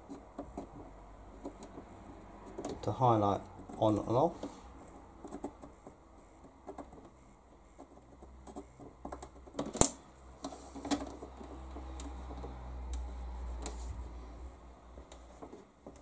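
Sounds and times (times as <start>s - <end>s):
pen and fingers tapping plastic: 0.0s - 4.6s, 5.2s - 13.9s, 14.8s - 16.0s.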